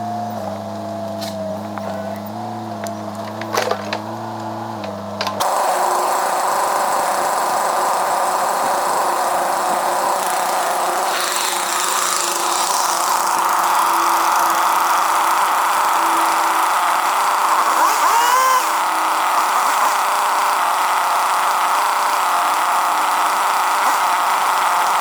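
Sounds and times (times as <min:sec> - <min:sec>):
loud steady machine noise: 0:00.0 - 0:25.0
small engine running: 0:00.0 - 0:25.0
clicks: 0:01.1 - 0:25.0.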